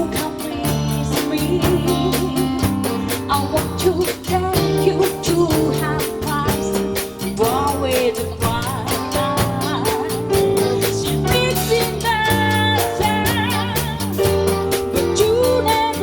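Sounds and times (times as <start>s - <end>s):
bass line: 0.0s - 16.0s
drum kit hi-hat pulse: 0.0s - 16.0s.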